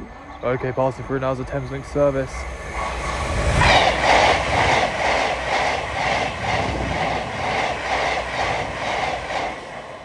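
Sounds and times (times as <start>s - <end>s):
train rumble: 0.0s - 10.0s
train wheels clattering: 0.8s - 10.0s.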